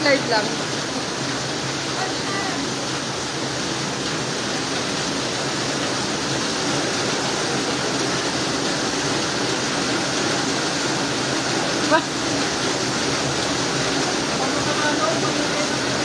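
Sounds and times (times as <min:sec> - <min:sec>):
floodwater rushing: 0:00.0 - 0:16.0
heavy rain: 0:00.0 - 0:16.0.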